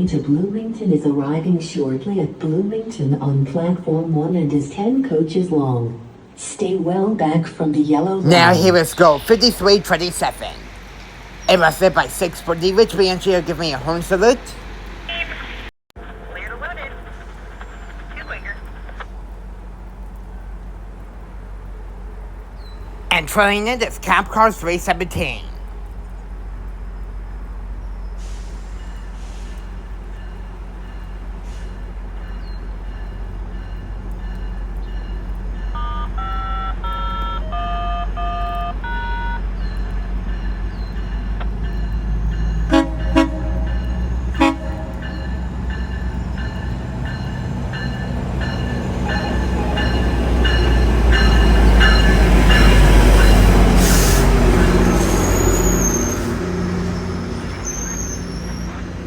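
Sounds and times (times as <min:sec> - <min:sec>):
diesel train engine rumble: 0:00.0 - 0:06.5, 0:08.2 - 0:59.0.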